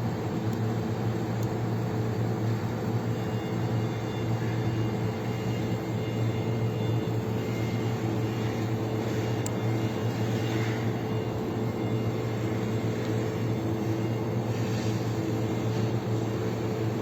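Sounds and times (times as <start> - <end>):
machine hum with low drone: 0.0 - 17.0.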